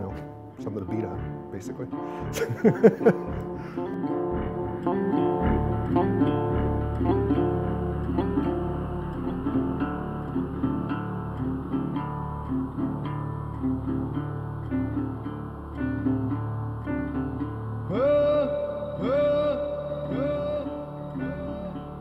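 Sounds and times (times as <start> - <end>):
plucked acoustic guitar: 0.0 - 22.0
bass line: 1.0 - 22.0.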